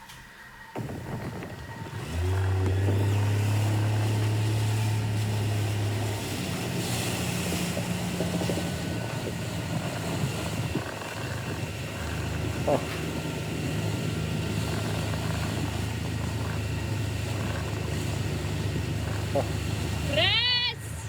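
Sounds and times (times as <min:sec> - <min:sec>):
motorboat engine: 0:00.0 - 0:21.0
water noise: 0:00.0 - 0:21.0
wind: 0:00.0 - 0:21.0.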